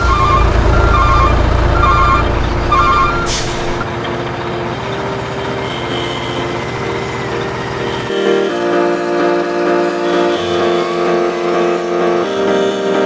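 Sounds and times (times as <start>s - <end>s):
truck reversing beeps: 0.0s - 11.2s
truck engine running: 0.0s - 13.0s.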